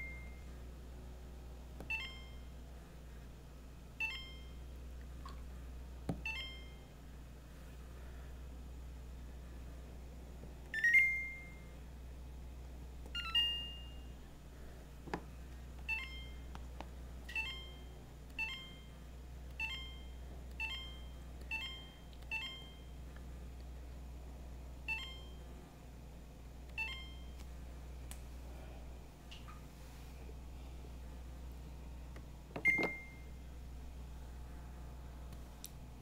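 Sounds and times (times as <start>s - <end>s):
low refrigerator hum: 0.0s - 36.0s.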